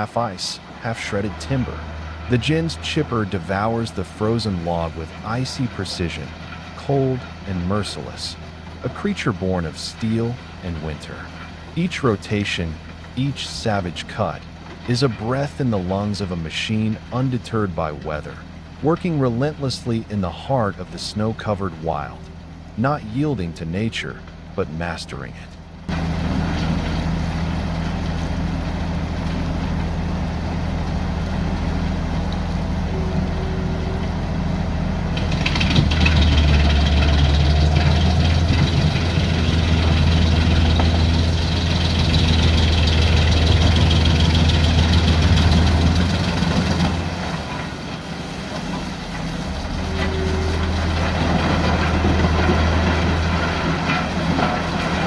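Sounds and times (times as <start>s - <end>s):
wood chipper engine running: 0.0s - 22.8s, 25.6s - 55.0s.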